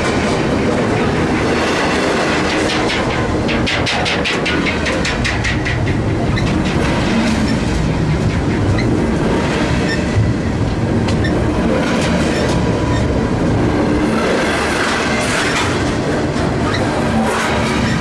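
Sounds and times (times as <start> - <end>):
freight train rumbling past: 0.0 - 18.0
wheels clicking over rail joints: 0.0 - 18.0.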